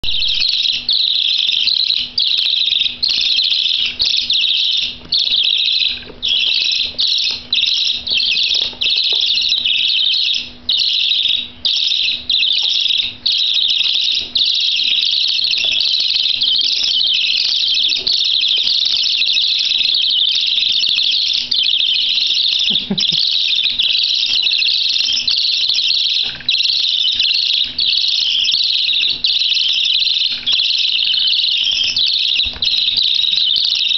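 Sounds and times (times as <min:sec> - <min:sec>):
budgerigar chicks begging calls: 0:00.0 - 0:33.9.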